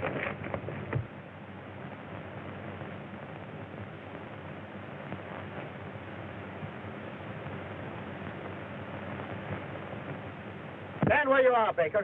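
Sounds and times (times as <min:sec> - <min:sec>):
low hum: 0:00.0 - 0:12.0
soundtrack hiss: 0:00.6 - 0:12.0.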